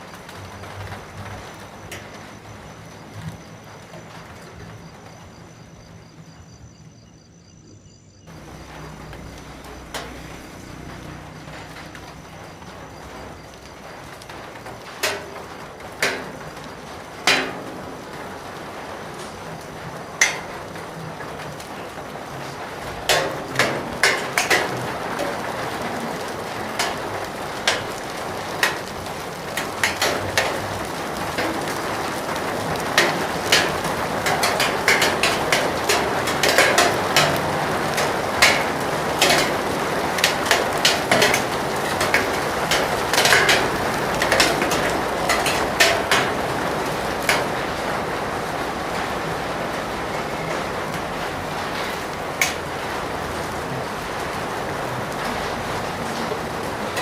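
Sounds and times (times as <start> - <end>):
raindrops tapping hard surface: 0.0 - 6.8, 8.2 - 57.0
steady rain: 0.0 - 57.0.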